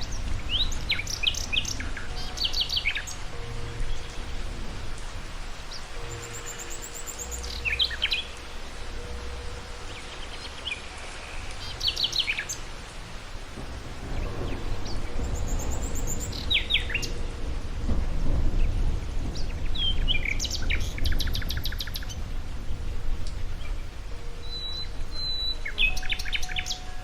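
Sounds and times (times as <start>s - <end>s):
outdoor background hiss: 0.0s - 27.0s
songbirds chirping: 0.0s - 27.0s.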